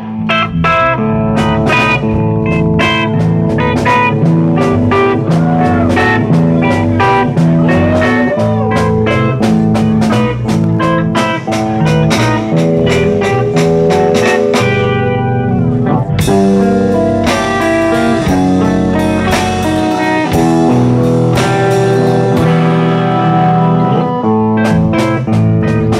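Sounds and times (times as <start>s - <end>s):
bass guitar: 0.0s - 25.9s
distorted electric guitar: 0.0s - 25.9s
drum kit with cymbal hits: 0.3s - 25.9s.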